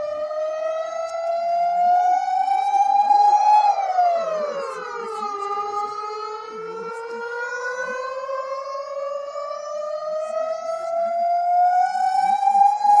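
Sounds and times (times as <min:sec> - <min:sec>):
reversed siren rising in pitch: 0:00.0 - 0:13.0.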